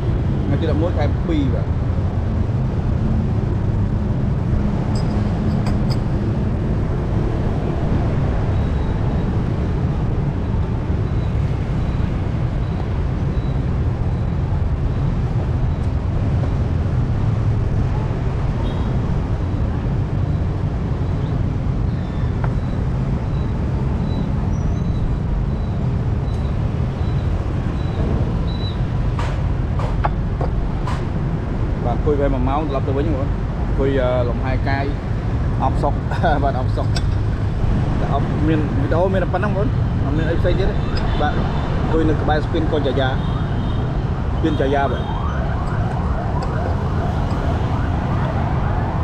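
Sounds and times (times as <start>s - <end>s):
street traffic rumble: 0.0s - 49.0s.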